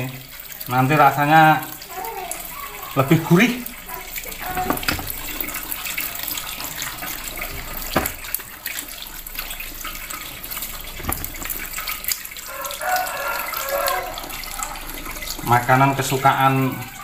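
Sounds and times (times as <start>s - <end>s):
tap water running and splashing: 0.0s - 17.0s.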